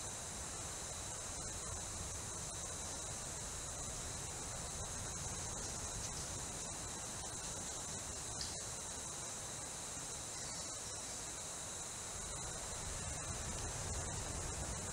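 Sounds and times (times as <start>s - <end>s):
insect chorus: 0.0s - 14.9s.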